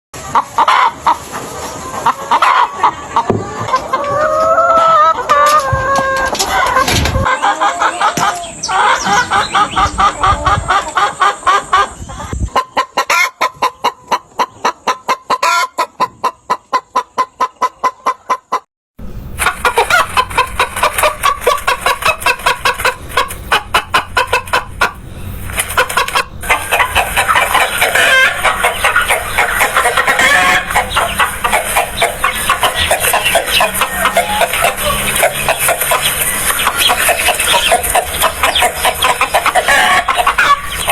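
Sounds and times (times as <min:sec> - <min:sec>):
chickens clucking: 0:00.2 - 0:18.7, 0:19.3 - 0:40.9.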